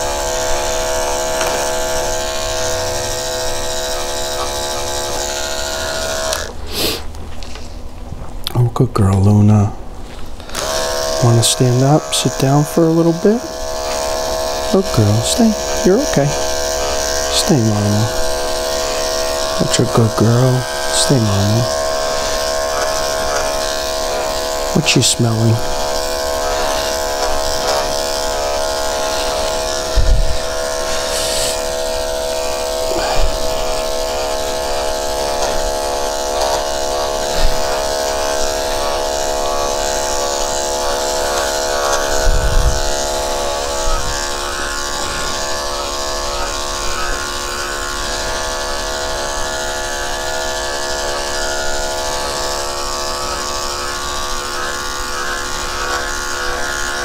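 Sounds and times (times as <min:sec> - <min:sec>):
electric clippers buzzing: 0:00.0 - 0:07.6, 0:10.1 - 0:57.0.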